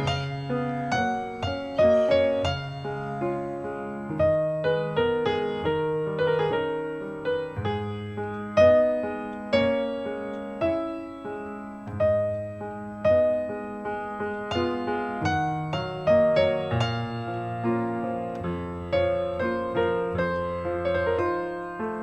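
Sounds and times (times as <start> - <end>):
slow solo piano music: 0.0 - 22.0.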